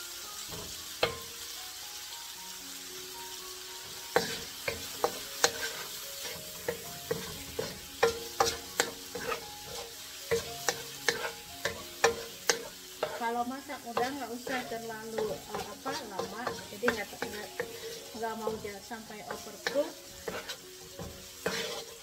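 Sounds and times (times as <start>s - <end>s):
food sizzling in oil: 0.0s - 22.0s
wooden spoon scraping a pan: 4.2s - 22.0s.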